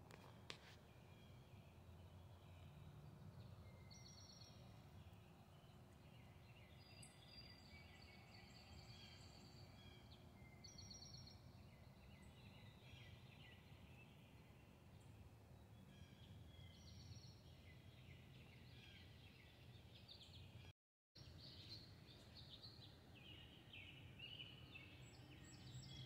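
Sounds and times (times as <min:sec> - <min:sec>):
low outdoor background noise: 0:00.0 - 0:26.0
songbird trills and chirps: 0:00.1 - 0:26.0.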